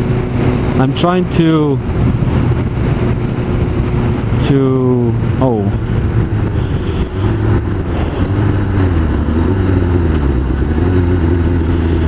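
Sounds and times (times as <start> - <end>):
wind rush over microphone: 0.0 - 10.8
motorcycle engine running: 0.0 - 12.0.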